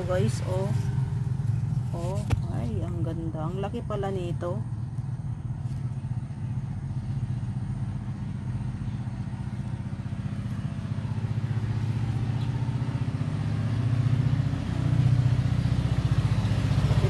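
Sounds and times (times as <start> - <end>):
small engine pulsing: 0.0 - 17.0.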